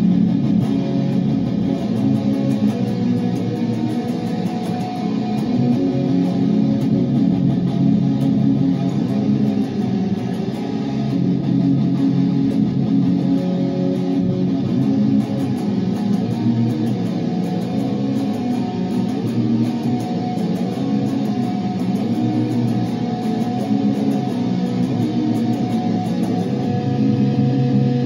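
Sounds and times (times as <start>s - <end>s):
distorted electric guitar chords: 0.0s - 28.0s.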